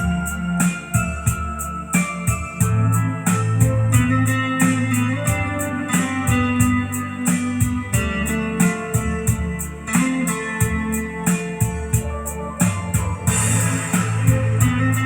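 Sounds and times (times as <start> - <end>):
music with guitar and bass: 0.0 - 15.0.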